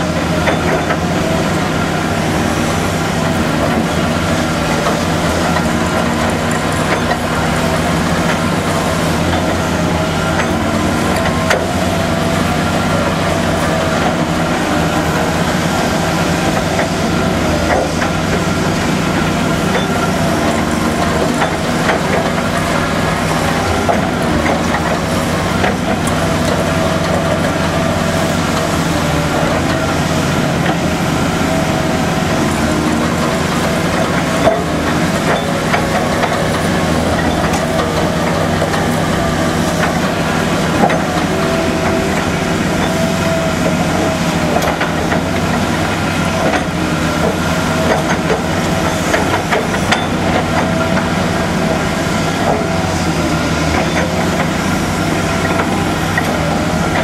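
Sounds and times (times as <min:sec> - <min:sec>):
drill rig engine running: 0:00.0 - 0:57.0.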